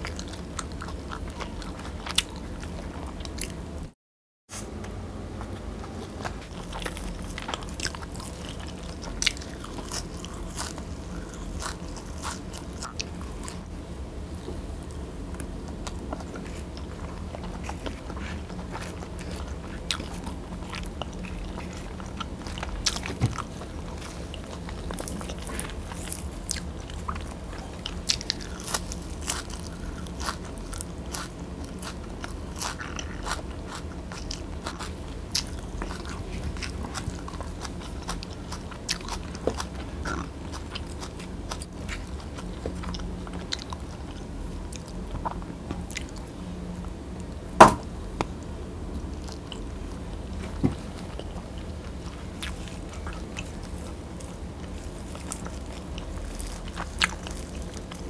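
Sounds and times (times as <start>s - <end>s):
person chewing: 0.0s - 3.7s, 5.4s - 13.8s, 14.4s - 46.4s, 49.0s - 58.0s.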